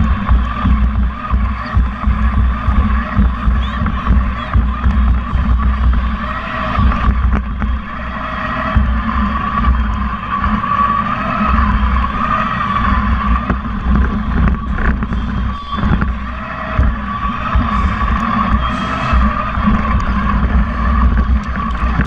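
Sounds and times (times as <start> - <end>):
electric motors whirring: 0.0 - 22.0.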